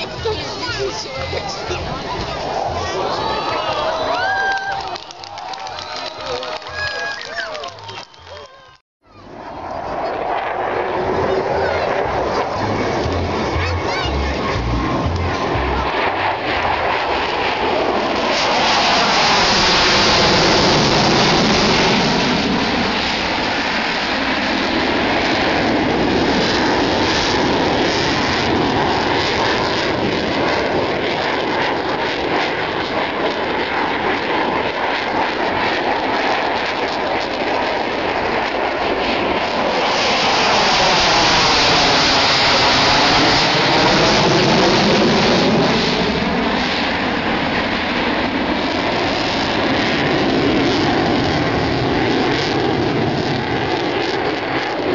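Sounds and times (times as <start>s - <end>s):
jet fighter roaring overhead: 0.0s - 54.9s.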